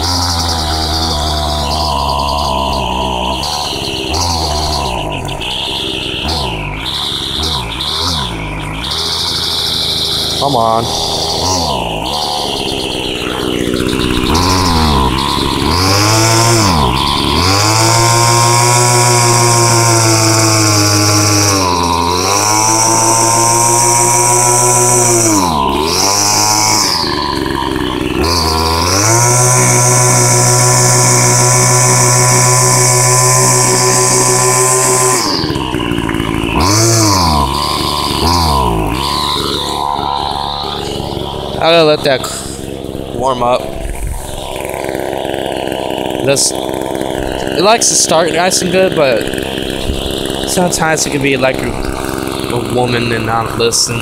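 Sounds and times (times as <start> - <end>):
string trimmer engine running: 0.0 - 54.0.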